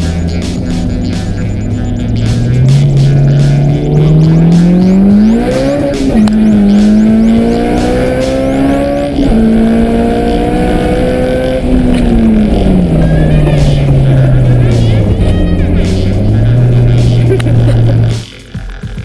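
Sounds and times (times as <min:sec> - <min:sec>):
turbocharged car engine at full throttle: 0:00.0 - 0:18.2.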